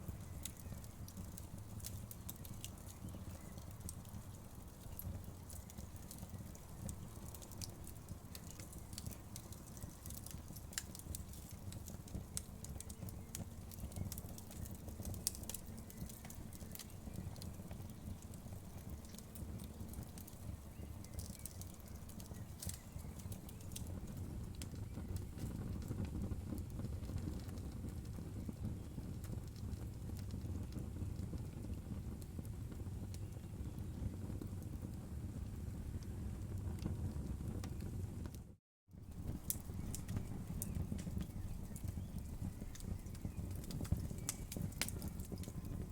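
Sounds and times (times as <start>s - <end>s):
burning wood crackling and popping: 0.0s - 45.9s
low rumble of flames: 0.0s - 45.9s.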